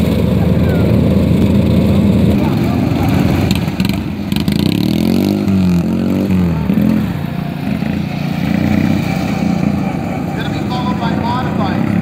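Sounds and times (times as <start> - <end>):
small engines revving: 0.0 - 12.0.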